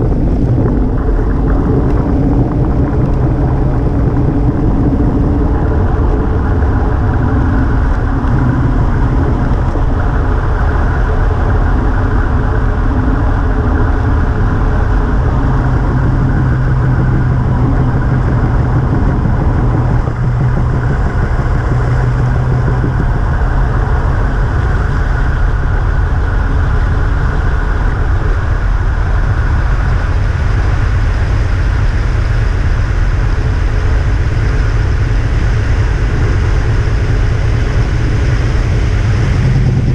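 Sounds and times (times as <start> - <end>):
steady low hum: 0.0 - 39.9
wind rushing over microphone: 0.0 - 39.9.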